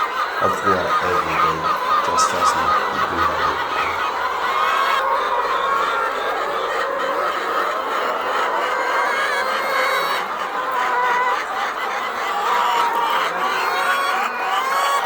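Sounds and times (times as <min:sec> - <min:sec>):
hens clucking: 0:00.1 - 0:15.0.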